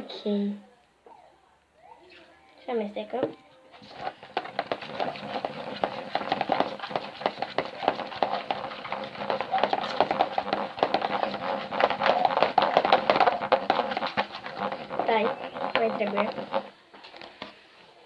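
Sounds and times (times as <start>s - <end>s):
spoon stirring sticky slime: 2.1s - 17.6s.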